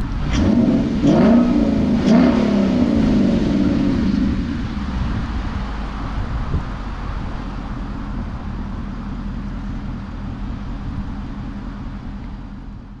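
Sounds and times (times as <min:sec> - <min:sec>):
low engine drone: 0:00.0 - 0:13.0
road and wind noise: 0:00.0 - 0:13.0.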